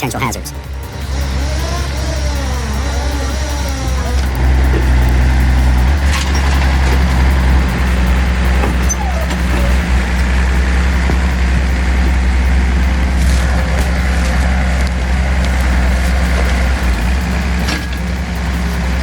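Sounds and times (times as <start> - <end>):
faint clicks: 0.0 - 19.0
large engine droning: 0.0 - 19.0.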